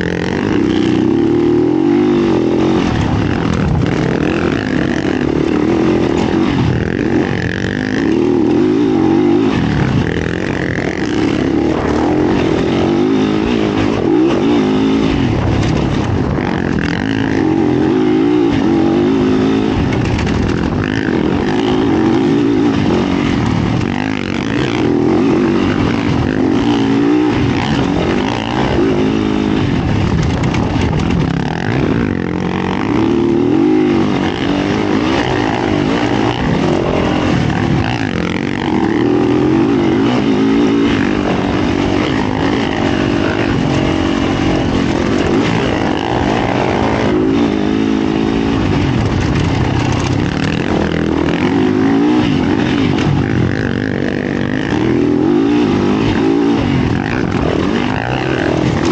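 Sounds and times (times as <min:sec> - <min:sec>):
dirt bike engine revving: 0:00.0 - 0:58.9
rushing noise: 0:00.0 - 0:58.9.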